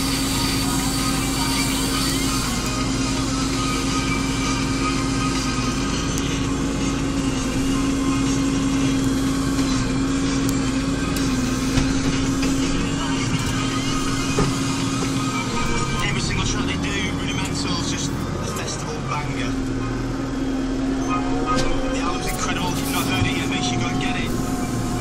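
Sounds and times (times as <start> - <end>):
tractor engine drone from cab: 0.0 - 25.0.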